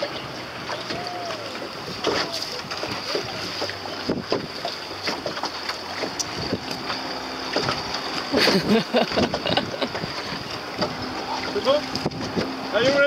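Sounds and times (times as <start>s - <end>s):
wind buffeting microphone: 0.0s - 5.4s, 6.0s - 6.9s, 8.5s - 13.0s
water slapping against hull: 0.0s - 13.0s
water splashing: 0.0s - 13.0s.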